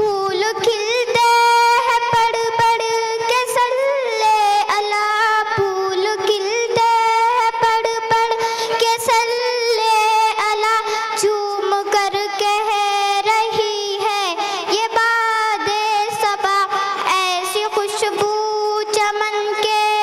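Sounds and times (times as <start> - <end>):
girl singing into a microphone: 0.0 - 20.0.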